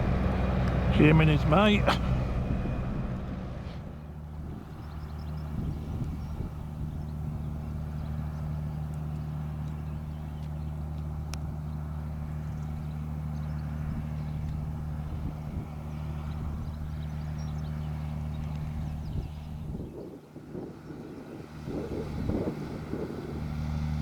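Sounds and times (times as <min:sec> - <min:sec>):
boat diesel engine running: 0:00.0 - 0:19.7, 0:21.5 - 0:24.0.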